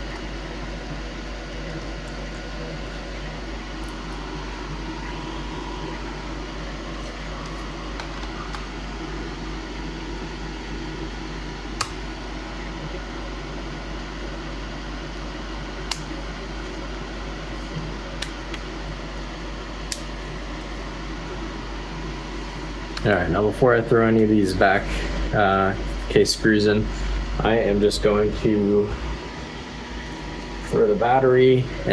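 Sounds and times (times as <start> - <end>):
fan-like whir: 0.0 - 31.9.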